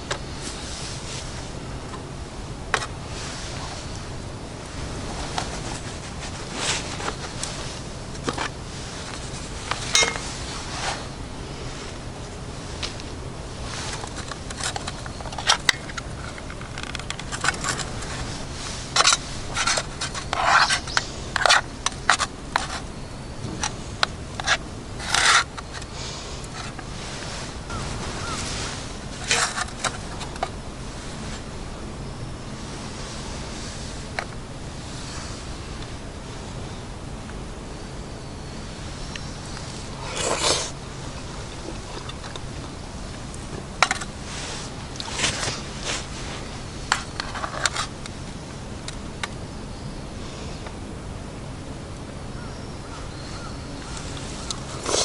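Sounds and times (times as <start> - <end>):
rustling: 0.0 - 36.6, 38.6 - 49.4, 52.9 - 55.0
low background hum: 0.0 - 55.0
steady outdoor hiss: 0.0 - 55.0.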